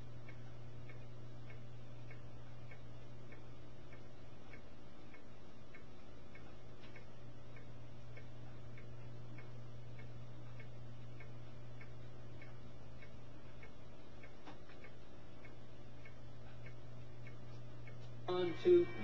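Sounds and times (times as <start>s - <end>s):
faint regular ticking: 0.0s - 19.0s
steady low hum: 0.0s - 19.0s.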